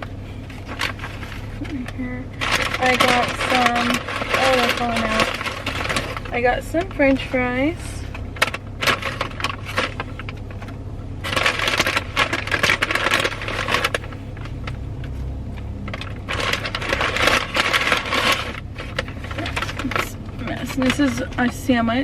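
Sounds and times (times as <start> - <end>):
paper packaging rustling: 0.0 - 22.0
steady low hum: 0.0 - 22.0.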